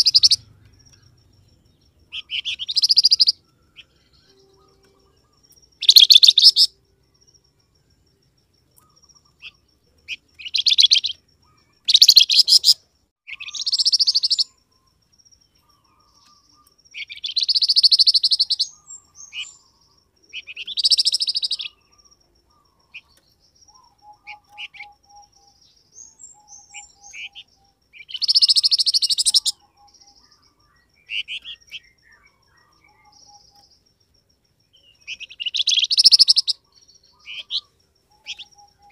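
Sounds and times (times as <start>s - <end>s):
harsh rattling bird calls: 0.0s - 7.4s, 8.4s - 38.9s
faint soft bird chirps: 0.0s - 38.9s.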